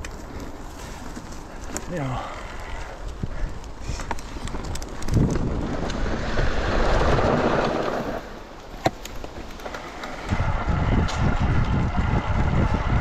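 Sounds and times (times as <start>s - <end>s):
bike rolling noise: 0.0s - 13.0s
wind buffeting microphone: 0.0s - 13.0s.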